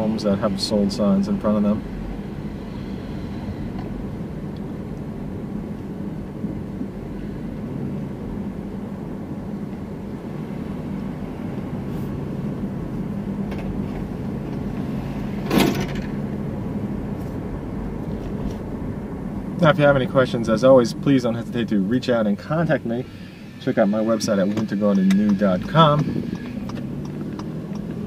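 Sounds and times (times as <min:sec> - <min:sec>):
car engine hum and road noise: 0:00.0 - 0:28.0.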